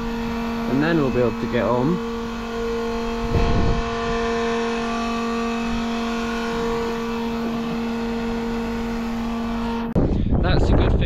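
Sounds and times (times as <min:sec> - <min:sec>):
electric fuel pump humming: 0:00.0 - 0:10.2.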